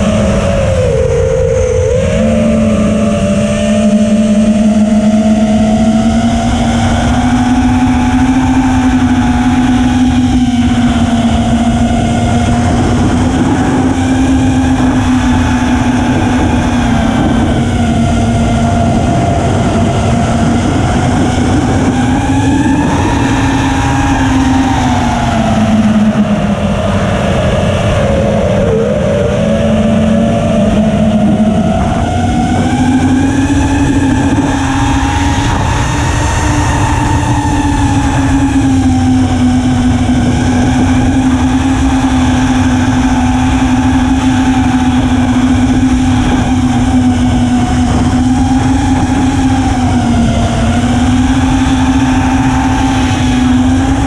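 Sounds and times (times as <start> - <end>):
drone motors buzzing whine: 0.0 - 54.0
low rumble: 0.0 - 54.0.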